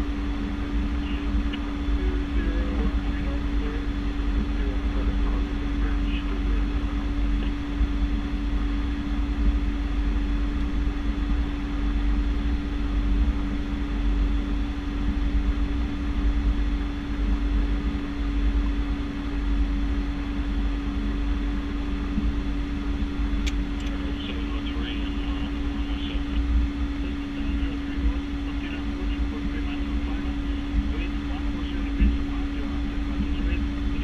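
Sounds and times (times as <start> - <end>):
turboprop engines humming: 0.0 - 34.0.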